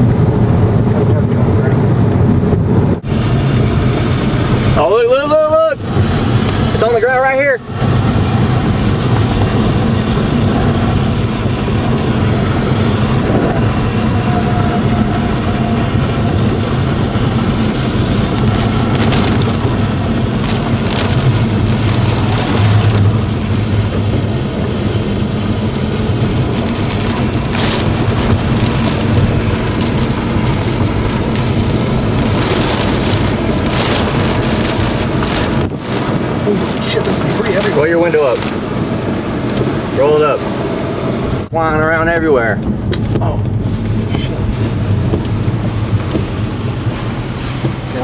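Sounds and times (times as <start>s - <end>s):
rushes of noise: 0.0s - 48.0s
vehicle engine and road noise: 0.0s - 48.0s.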